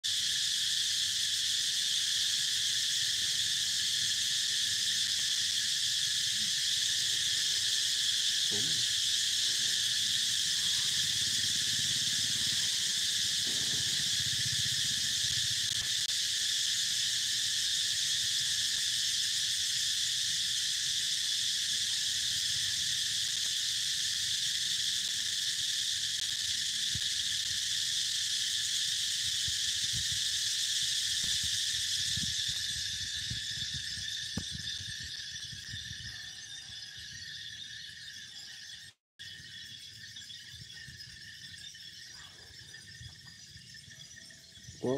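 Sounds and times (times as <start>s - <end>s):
insect chorus: 0.0s - 44.9s.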